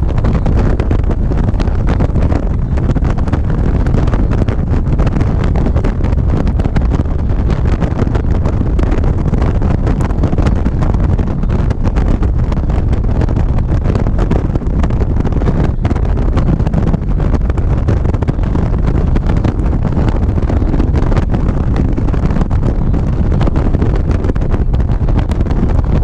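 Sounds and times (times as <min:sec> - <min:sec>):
motorcycle engine running: 0:00.0 - 0:26.0
road noise: 0:00.0 - 0:26.0
wind buffeting microphone: 0:00.0 - 0:26.0.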